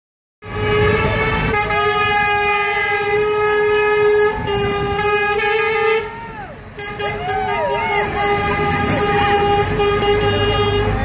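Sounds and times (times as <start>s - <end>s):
horn bending in pitch: 0.4s - 6.2s, 6.8s - 11.0s
truck air horns blaring: 0.4s - 11.0s.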